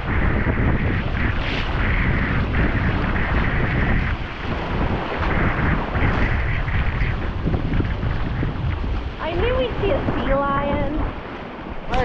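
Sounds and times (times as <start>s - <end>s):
waves splashing against hull: 0.0s - 12.0s
wind buffeting microphone: 0.0s - 12.0s.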